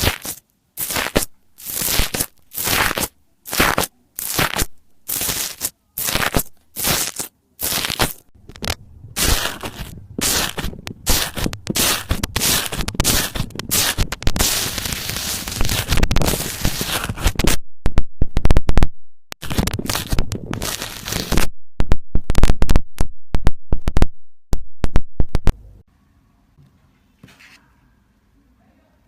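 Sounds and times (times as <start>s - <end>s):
slime crackling and popping: 0.0s - 18.8s, 19.4s - 24.0s.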